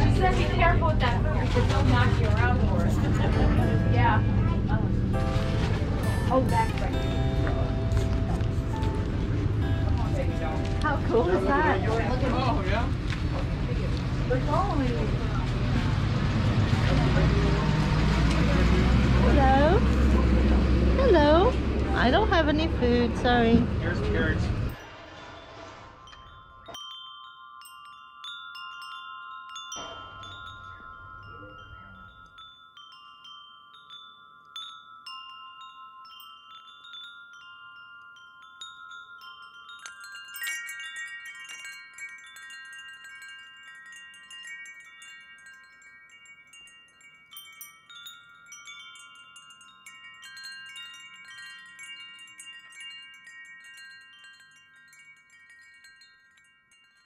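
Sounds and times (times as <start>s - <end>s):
higher busier chimes: 0.0s - 57.0s
wind chimes ringing: 0.0s - 57.0s.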